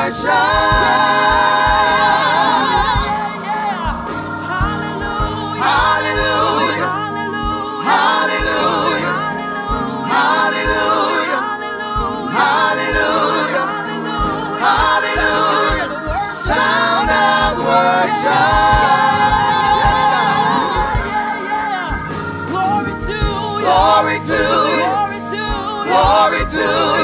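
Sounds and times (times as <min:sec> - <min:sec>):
gospel group singing: 0:00.0 - 0:27.0
musical accompaniment with low beat: 0:00.0 - 0:27.0.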